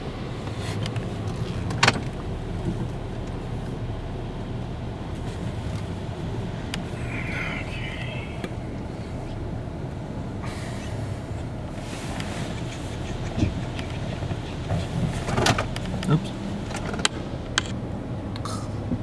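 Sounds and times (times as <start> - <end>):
car rumbling: 0.0 - 19.0.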